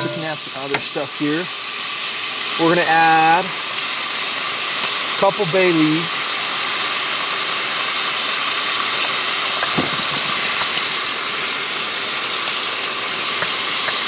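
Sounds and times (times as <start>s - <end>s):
meat sizzling in a pot: 0.0s - 14.0s.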